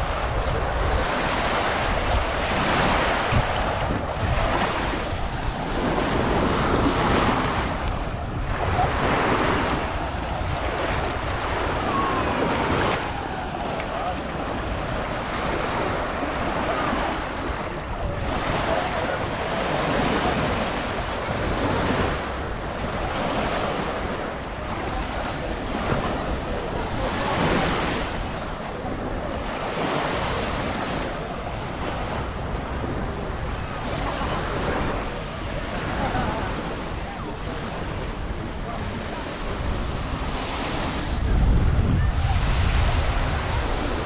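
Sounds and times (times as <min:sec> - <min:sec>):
waves washing onto sandy beach: 0:00.0 - 0:44.0
wind buffeting microphone: 0:00.0 - 0:44.0.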